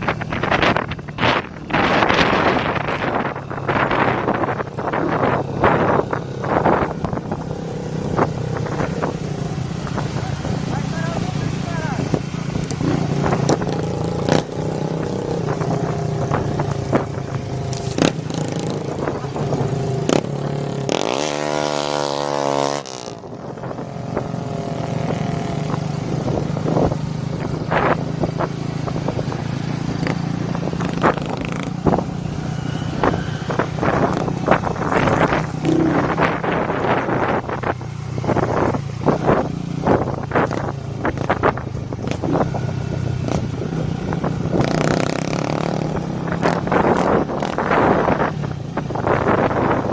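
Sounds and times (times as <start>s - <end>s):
motorcycle engines running: 0.0s - 49.9s.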